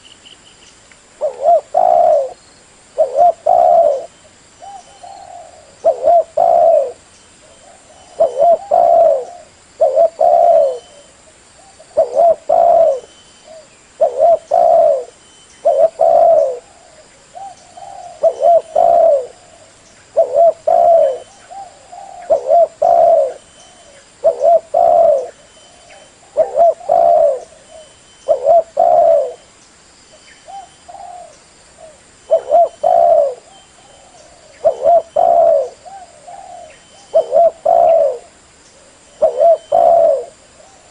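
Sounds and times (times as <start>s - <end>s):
dove cooing: 1.2s - 2.4s, 3.0s - 29.4s, 30.4s - 40.9s.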